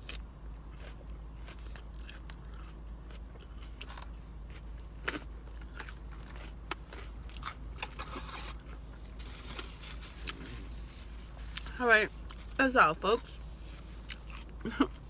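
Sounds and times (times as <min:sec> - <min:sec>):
chewing and crunching salad: 0:00.0 - 0:15.0.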